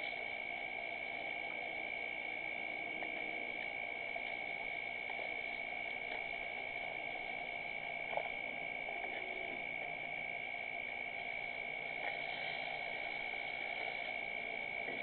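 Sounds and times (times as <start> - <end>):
insects calling: 0.1 - 15.0.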